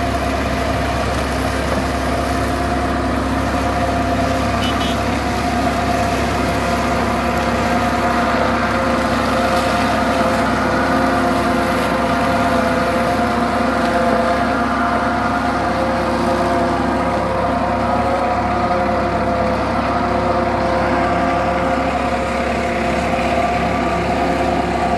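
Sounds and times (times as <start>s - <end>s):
mulcher shredding stubble: 0.0s - 24.9s
tractor diesel engine running: 0.0s - 24.9s.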